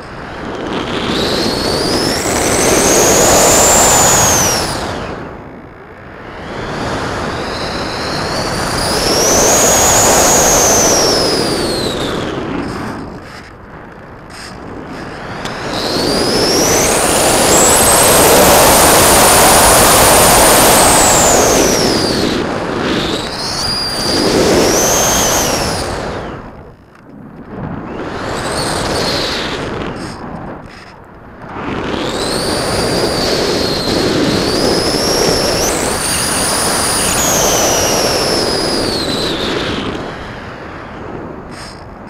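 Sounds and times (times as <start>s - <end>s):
rushing air: 0.0s - 5.6s, 6.2s - 26.6s, 27.5s - 42.0s
electric motor propeller whine: 0.0s - 42.0s.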